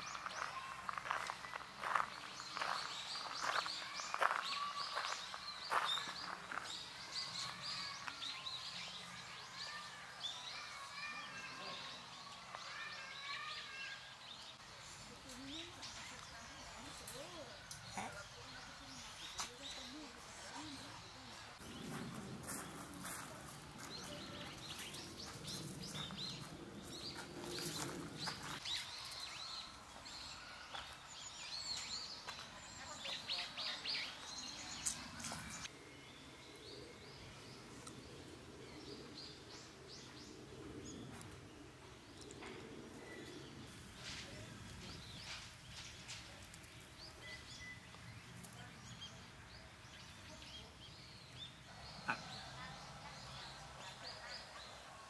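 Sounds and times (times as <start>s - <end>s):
birds chirping: 0.0s - 55.0s
faint outdoor background noise: 0.0s - 55.0s.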